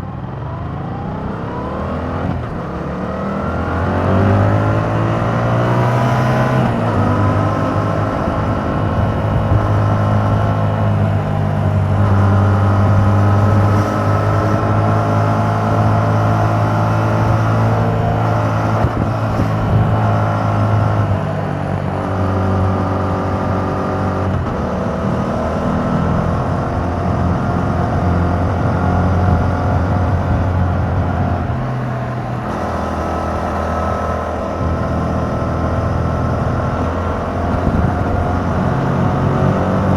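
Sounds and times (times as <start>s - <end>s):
motorcycle engine running: 2.3s - 39.9s.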